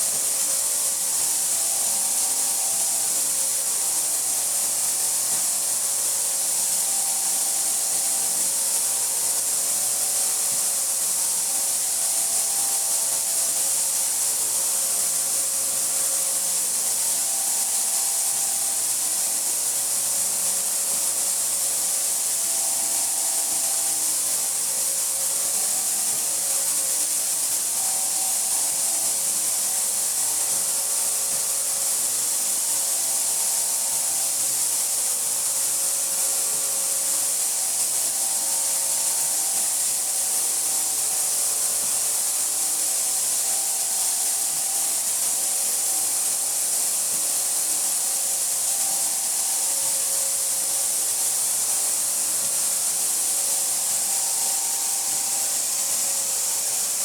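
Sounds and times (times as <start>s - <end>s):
ultrasonic cleaner hissing: 0.0s - 57.0s.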